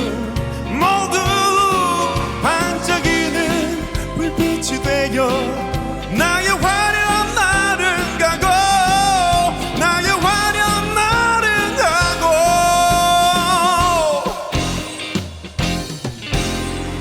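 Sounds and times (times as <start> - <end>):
man singing pop ballad: 0.0 - 15.2
live band playing: 0.0 - 17.0.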